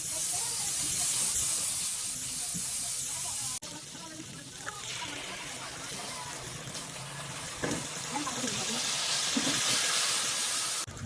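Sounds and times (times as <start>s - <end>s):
chicken sizzling in a frying pan: 0.0s - 10.9s.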